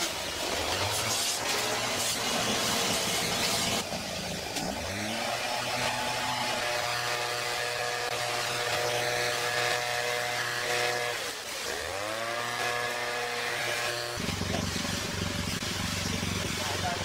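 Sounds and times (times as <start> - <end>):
leaf blower engine running: 0.0 - 17.0.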